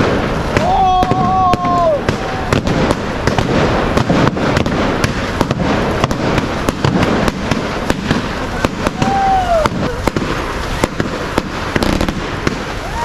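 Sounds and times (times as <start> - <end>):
firecrackers cracking and banging: 0.0 - 13.0
loud steady din: 0.0 - 13.0.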